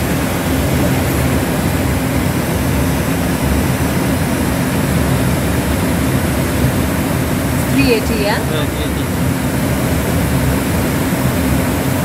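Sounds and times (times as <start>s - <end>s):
jet engines rumbling overhead: 0.0s - 12.0s.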